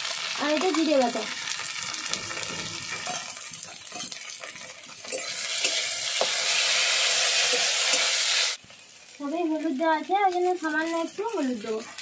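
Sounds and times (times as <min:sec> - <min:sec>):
onions frying in hot oil: 0:00.0 - 0:12.0.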